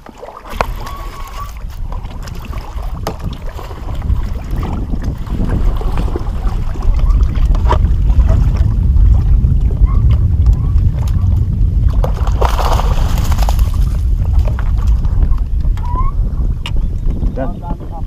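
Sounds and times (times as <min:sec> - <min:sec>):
water splash: 0:00.0 - 0:15.1
water sloshing against boat: 0:00.0 - 0:18.0
wind rumbling on microphone: 0:00.0 - 0:18.0.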